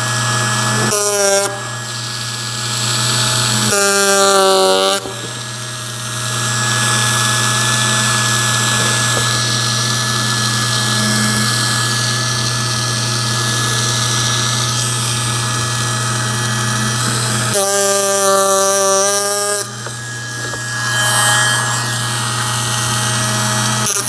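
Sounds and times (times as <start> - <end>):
power carver buzzing: 0.0 - 24.0.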